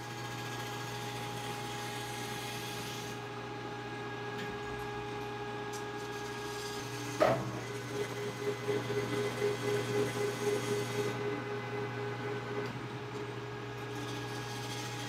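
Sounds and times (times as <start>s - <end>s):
electric machine hum: 0.0s - 15.0s.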